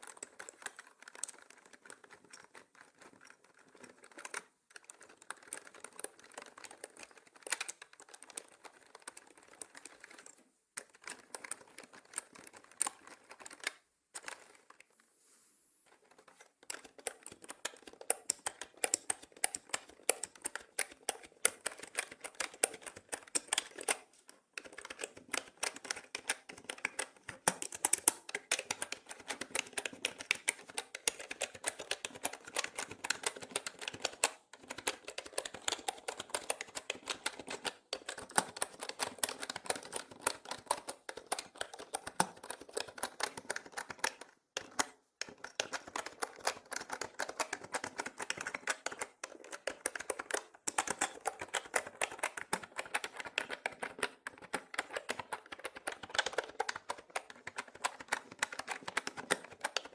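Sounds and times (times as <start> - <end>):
mechanical keyboard typing: 0.0 - 14.8, 15.9 - 59.9.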